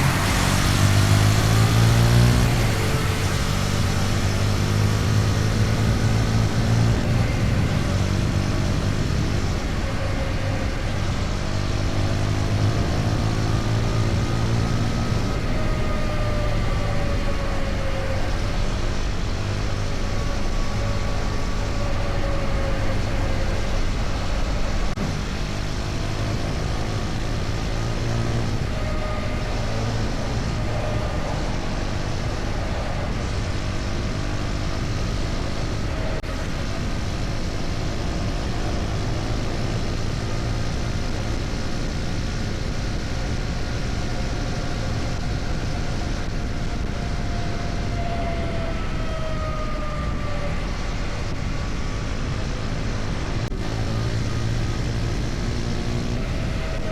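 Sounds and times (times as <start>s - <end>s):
road noise: 0.0s - 56.9s.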